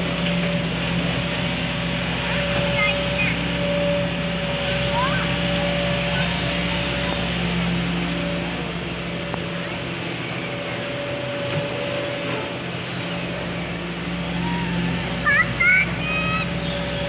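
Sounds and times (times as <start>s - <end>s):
diesel engine running: 0.0s - 17.0s
hydraulic whine: 0.0s - 17.0s.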